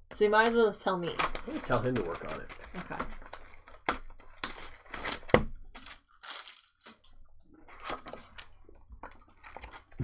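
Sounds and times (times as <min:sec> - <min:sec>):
wrappers and cards rustling: 0:01.1 - 0:07.1, 0:07.7 - 0:10.0.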